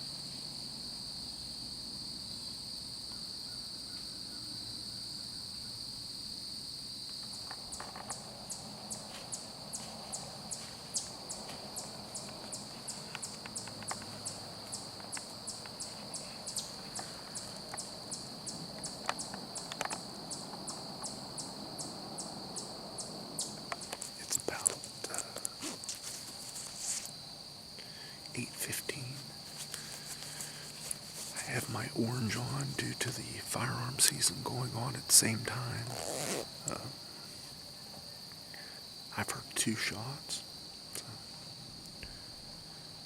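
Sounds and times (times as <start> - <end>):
crickets trilling: 0.0 - 43.0
insect chirping: 0.0 - 43.0.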